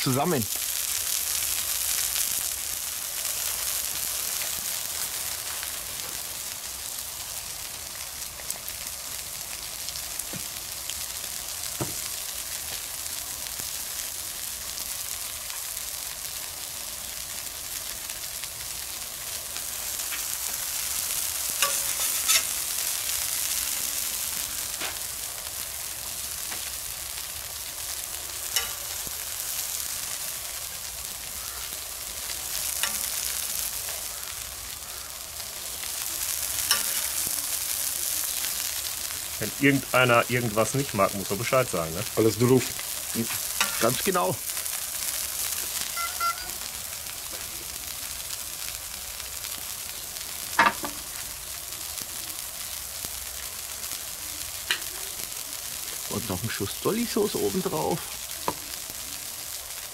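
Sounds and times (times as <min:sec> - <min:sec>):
food sizzling on hot plate: 0:00.0 - 0:59.9.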